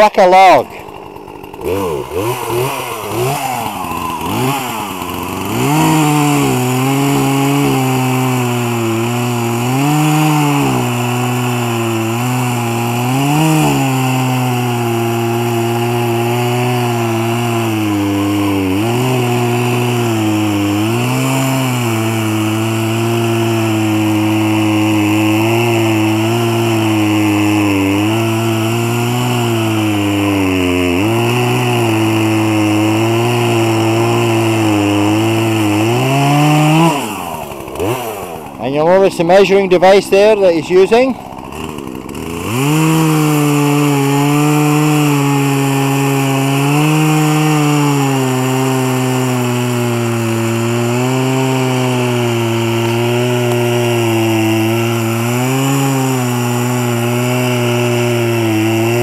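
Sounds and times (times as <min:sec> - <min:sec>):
chainsaw revving and cutting log: 0:00.0 - 0:59.0.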